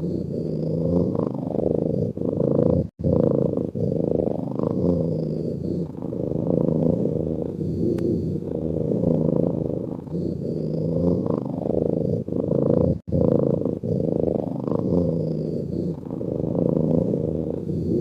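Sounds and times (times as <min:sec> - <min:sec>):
cat purring: 0:00.0 - 0:18.0.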